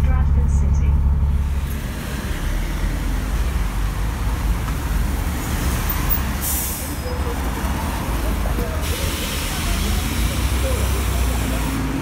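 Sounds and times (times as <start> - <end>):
bus engine idling: 0.0 - 12.0
traffic on a wet street: 0.0 - 12.0.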